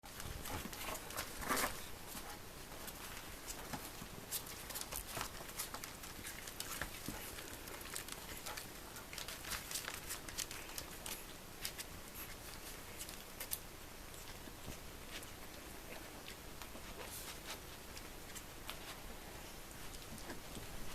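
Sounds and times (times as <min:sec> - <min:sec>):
puppy claws scratching and clicking: 0:00.1 - 0:19.0.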